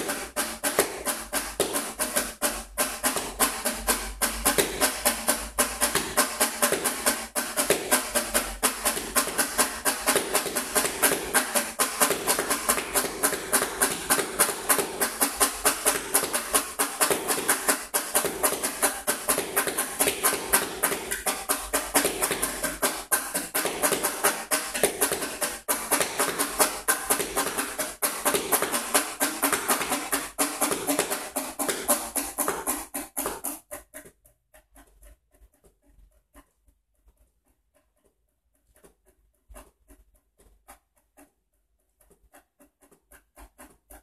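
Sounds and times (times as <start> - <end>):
rapid hand percussion taps: 0.0 - 36.5.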